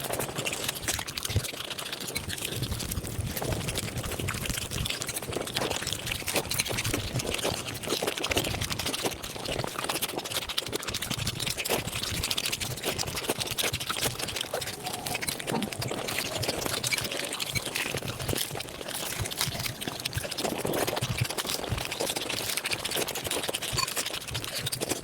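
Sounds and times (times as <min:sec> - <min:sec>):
sped-up chewing and mouth sounds: 0:00.0 - 0:25.0.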